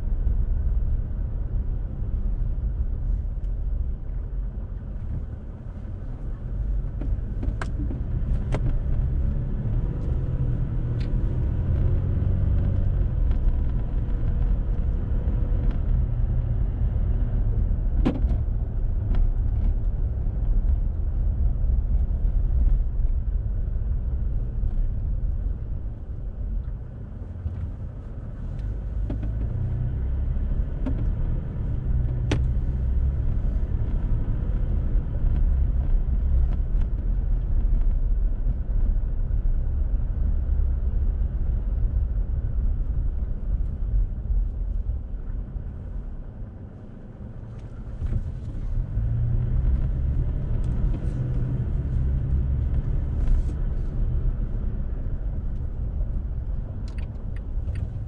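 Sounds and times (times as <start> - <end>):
car engine and tyres rumble: 0.0 - 58.0.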